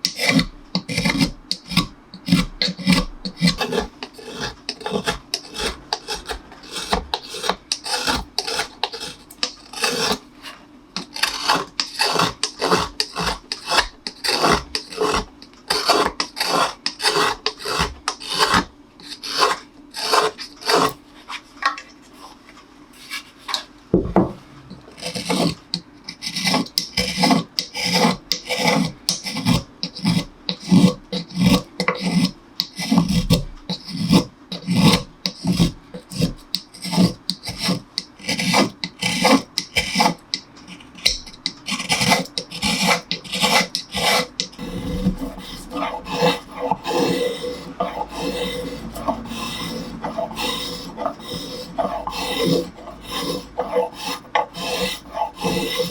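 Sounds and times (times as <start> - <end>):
hand tool scraping wood: 0.0 - 21.4, 24.7 - 55.9.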